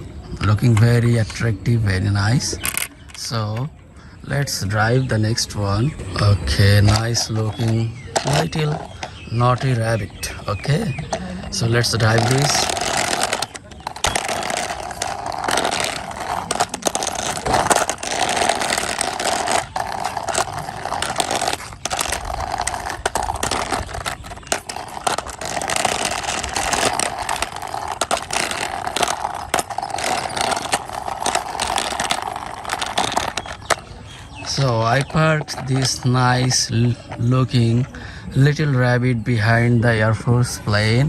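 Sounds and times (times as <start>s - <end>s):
plastic toy wheels rolling on wall: 0.0s - 3.7s, 4.5s - 38.6s.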